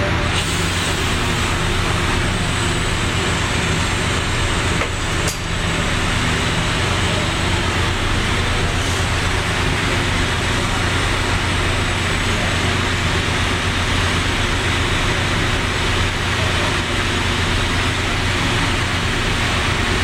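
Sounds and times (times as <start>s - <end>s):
welding arc buzz and hiss: 0.0s - 20.0s.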